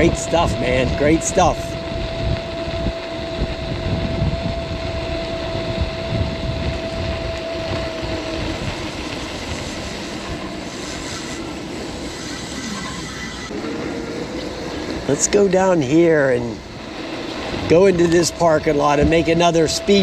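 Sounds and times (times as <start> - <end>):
electric motor whine: 0.0 - 20.0
wind and road noise: 0.0 - 20.0.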